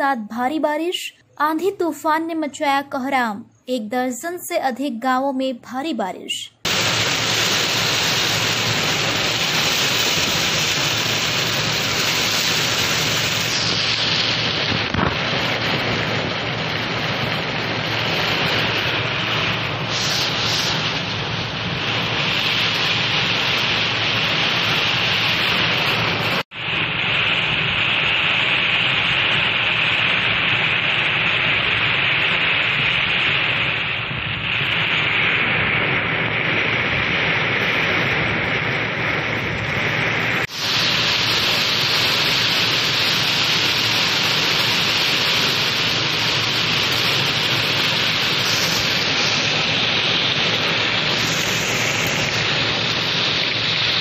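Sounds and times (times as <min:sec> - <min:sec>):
heavy rain hissing: 0:06.6 - 0:54.0.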